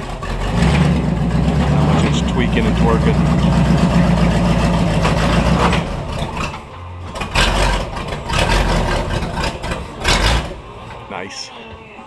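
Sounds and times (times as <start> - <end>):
engine revving in surges: 0.0 - 10.8.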